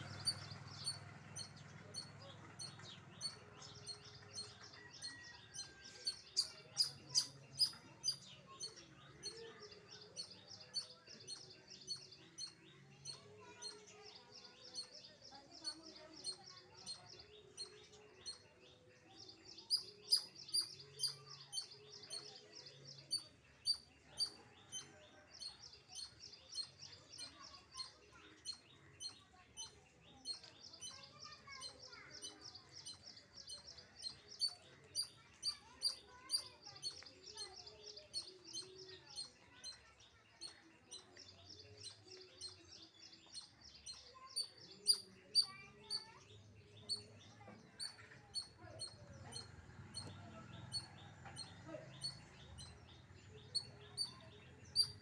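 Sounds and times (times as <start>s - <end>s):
squirrel chirping: 0.0s - 13.8s, 19.6s - 22.3s, 23.1s - 55.0s.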